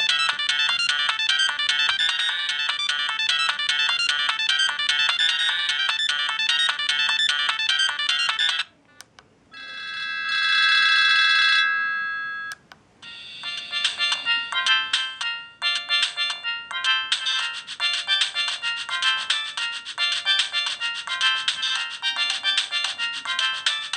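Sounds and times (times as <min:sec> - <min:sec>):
phone ringtone melody: 0:00.0 - 0:08.8, 0:09.5 - 0:23.9.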